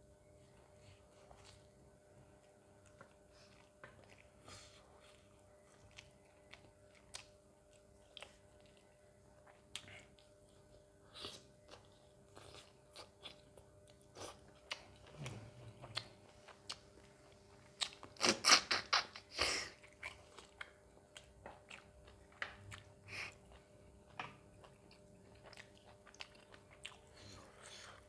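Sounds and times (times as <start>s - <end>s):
chewing and crunching bone: 2.4s - 18.2s, 19.8s - 28.0s.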